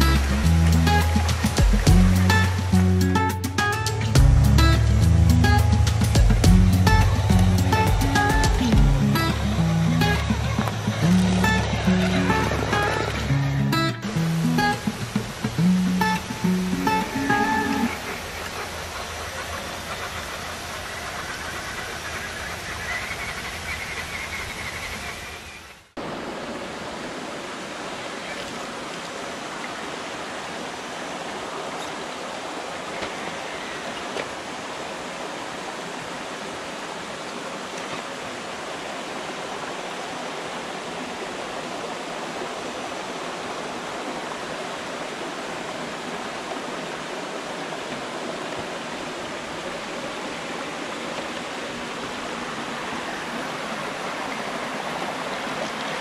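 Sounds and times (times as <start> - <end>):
creek running over rocks: 0.0 - 56.0.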